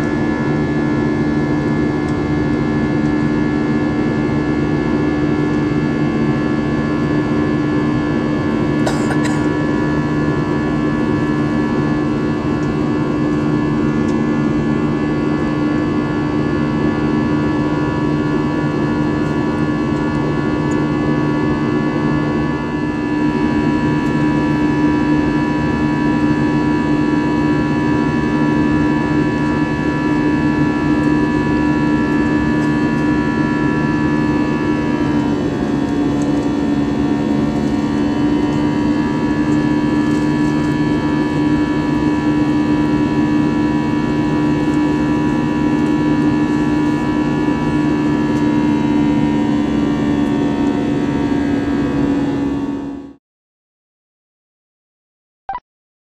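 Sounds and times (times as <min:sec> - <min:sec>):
steady humming tones: 0:00.0 - 0:52.1
jet engine drone in cabin: 0:00.0 - 0:53.2.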